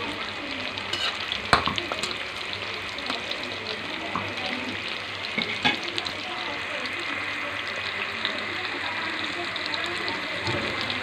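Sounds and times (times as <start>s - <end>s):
tofu sizzling in hot oil: 0.0s - 11.0s.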